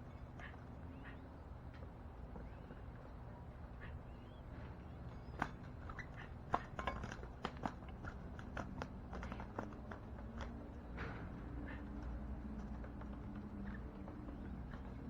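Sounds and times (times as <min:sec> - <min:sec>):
birds pecking seed: 0:00.0 - 0:15.0
steady low hum: 0:00.0 - 0:15.0.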